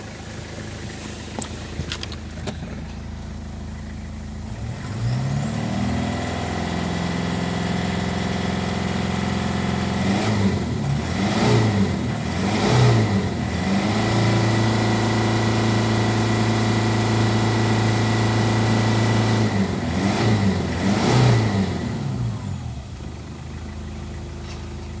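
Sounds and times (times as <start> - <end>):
car engine revving: 0.0 - 23.2.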